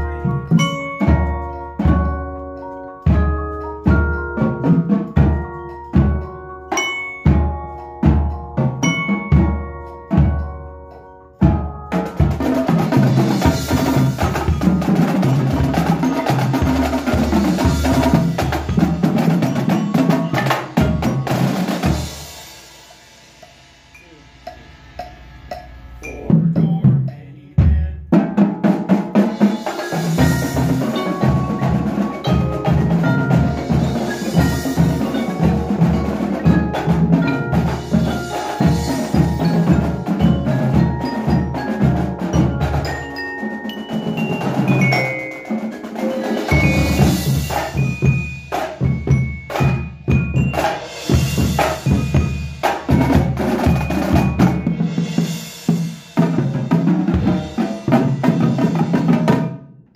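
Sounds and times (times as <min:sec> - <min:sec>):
marching drums: 0:00.0 - 0:10.8, 0:11.4 - 0:59.7
marimba mallet notes: 0:00.0 - 0:59.3
cymbals: 0:00.0 - 0:59.5.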